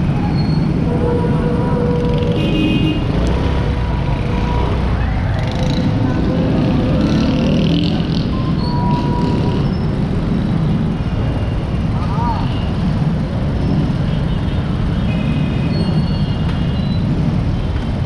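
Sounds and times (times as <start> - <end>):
low traffic rumble: 0.0 - 18.0
passing vehicle engines: 0.0 - 18.0.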